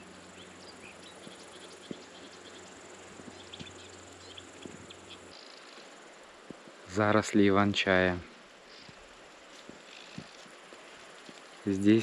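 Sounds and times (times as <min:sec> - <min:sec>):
kites calling faintly: 0:00.0 - 0:12.0.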